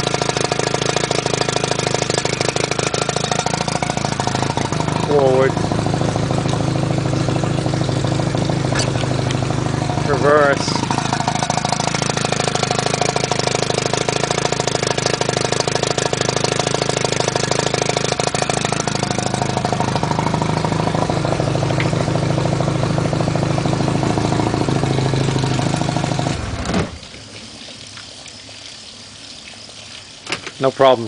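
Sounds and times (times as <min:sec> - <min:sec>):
outboard motor pulsing: 0:00.0 - 0:31.0.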